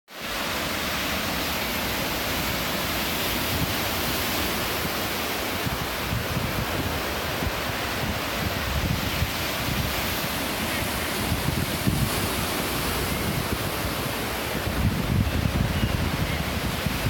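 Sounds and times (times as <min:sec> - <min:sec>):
ocean surf washing over rocks: 0:00.1 - 0:17.0
wind buffeting microphone: 0:02.0 - 0:17.0.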